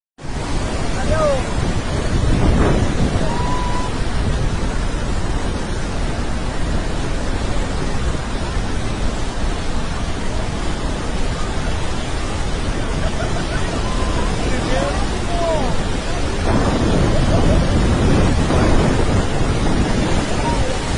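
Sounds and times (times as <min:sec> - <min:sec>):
waterfall roaring: 0:00.2 - 0:20.9.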